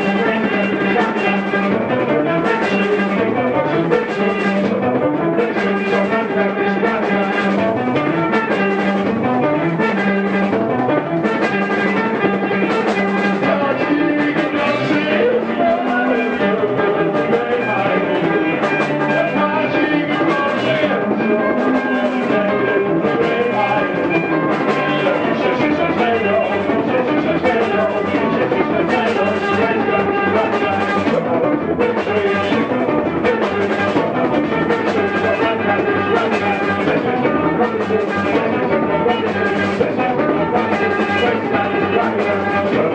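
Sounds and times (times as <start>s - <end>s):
live post-punk band playing: 0.0s - 42.9s.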